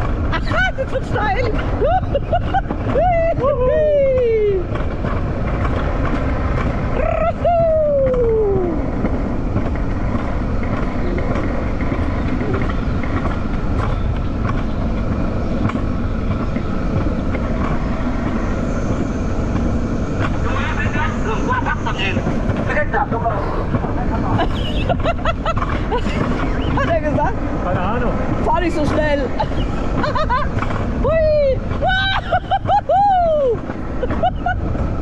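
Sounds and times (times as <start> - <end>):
coaster wheels rumbling on rail: 0.0 - 35.0.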